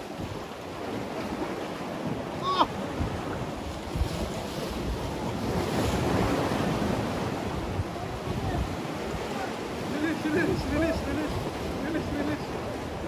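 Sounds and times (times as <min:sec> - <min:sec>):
waves washing against concrete: 0:00.0 - 0:13.0
wind buffeting microphone: 0:00.0 - 0:13.0.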